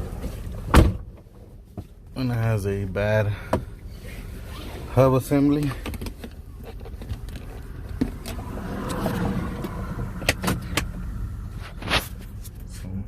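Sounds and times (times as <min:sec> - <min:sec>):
wheel and road noise rumble: 0:00.0 - 0:13.0.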